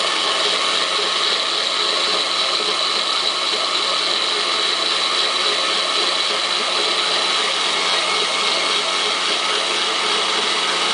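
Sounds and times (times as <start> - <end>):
blender motor humming and whining: 0.0 - 10.9.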